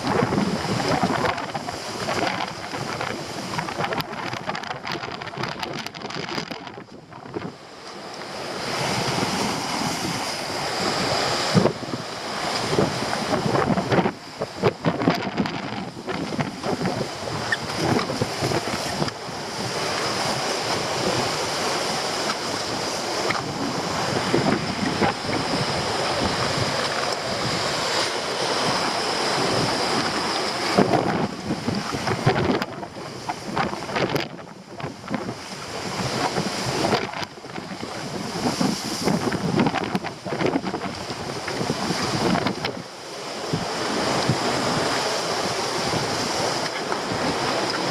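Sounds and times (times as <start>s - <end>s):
wind buffeting microphone: 0.0s - 7.7s, 8.3s - 47.9s
surf breaking against rocks: 0.0s - 47.9s.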